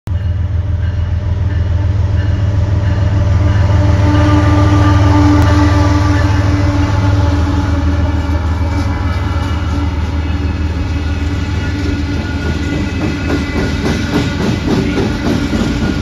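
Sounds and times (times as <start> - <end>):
diesel locomotives rumbling past: 0.1 - 16.0.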